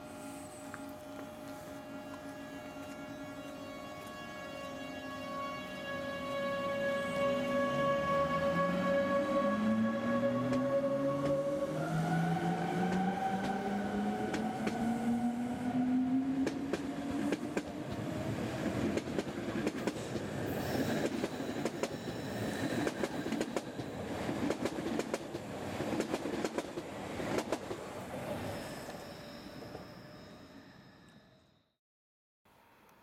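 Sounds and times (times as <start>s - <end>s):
electric locomotive whine: 0.0s - 25.1s, 27.9s - 31.8s.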